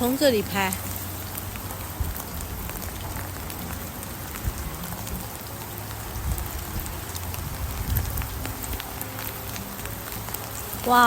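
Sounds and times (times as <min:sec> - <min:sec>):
rain falling: 0:00.0 - 0:11.0
raindrops ticking close by: 0:00.0 - 0:11.0.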